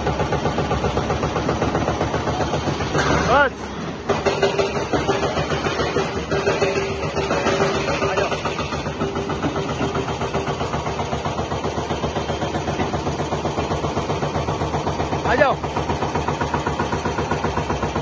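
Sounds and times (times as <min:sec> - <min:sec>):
excavator diesel engine throbbing: 0:00.0 - 0:18.0.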